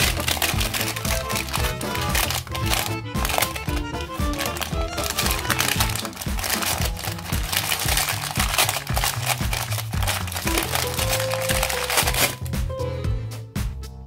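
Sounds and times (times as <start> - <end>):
tissue paper crinkling: 0.0 - 12.5
background music with bass beat: 0.0 - 14.0.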